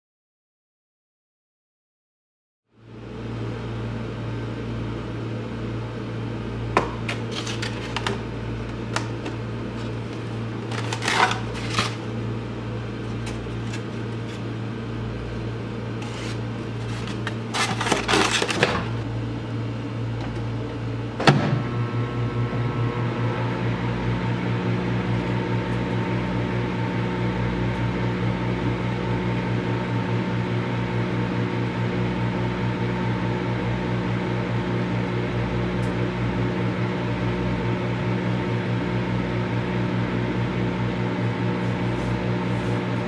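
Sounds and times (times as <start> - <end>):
microwave oven humming: 2.7 - 43.0.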